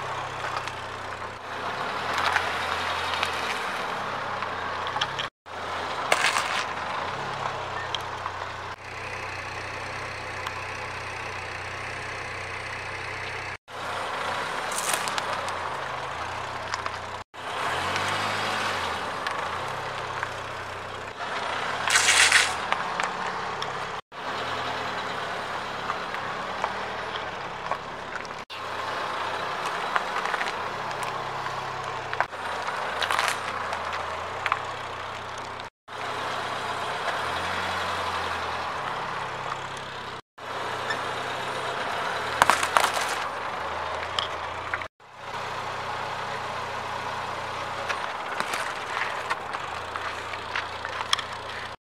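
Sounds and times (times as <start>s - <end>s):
car engine idling: 0.0s - 51.8s
objects crunching under tyre: 0.0s - 51.8s
tyres on gravel: 0.0s - 51.8s.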